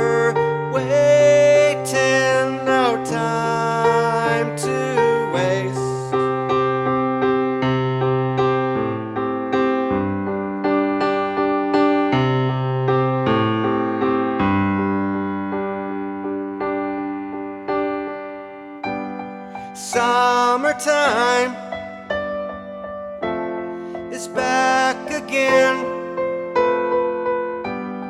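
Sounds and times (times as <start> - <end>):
keyboard chords: 0.0 - 28.0.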